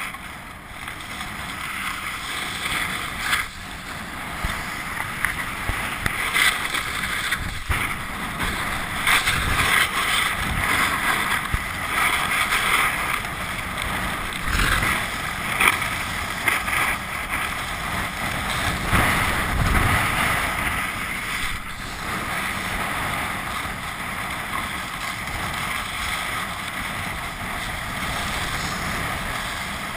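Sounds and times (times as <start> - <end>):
snowboard scraping over snow: 0.0 - 29.9
wind buffeting microphone: 0.6 - 29.9.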